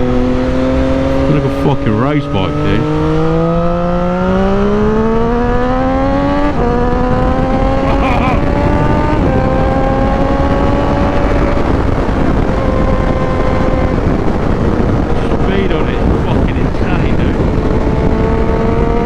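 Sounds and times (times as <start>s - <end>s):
motorcycle engine revving: 0.0s - 19.0s
wind rush: 0.0s - 19.0s.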